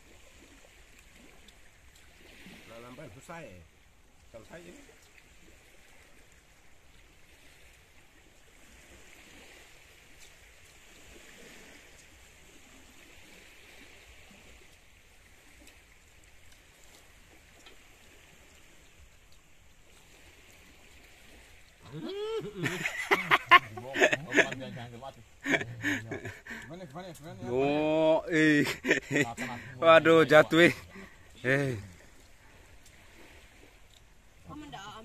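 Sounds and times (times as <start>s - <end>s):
faint water wash: 0.0s - 35.0s.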